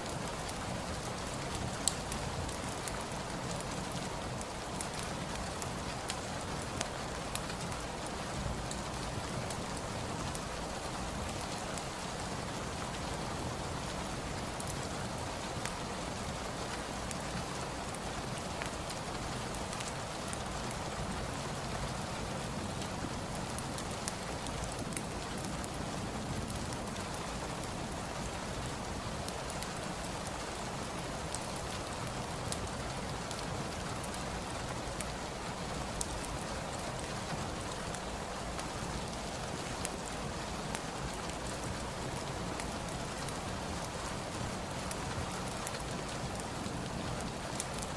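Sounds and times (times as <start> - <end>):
fireplace fire crackling: 0.0 - 47.9
rain falling: 0.0 - 47.9.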